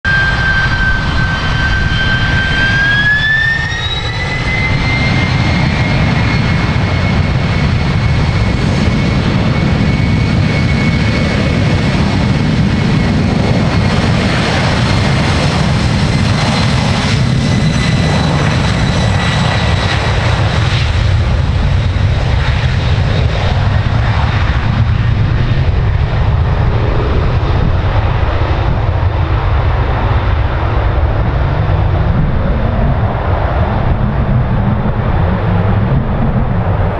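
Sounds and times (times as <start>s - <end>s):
jet engines rumbling and whining: 0.0s - 36.9s.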